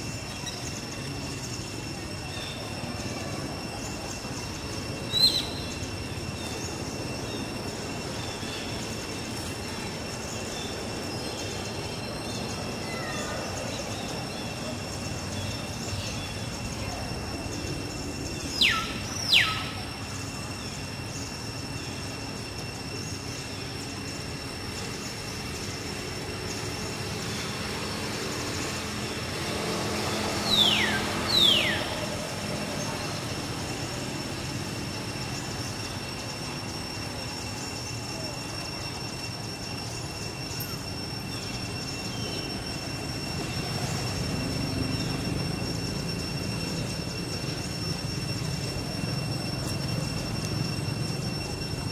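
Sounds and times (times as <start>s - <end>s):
steady high whine: 0.0s - 51.9s.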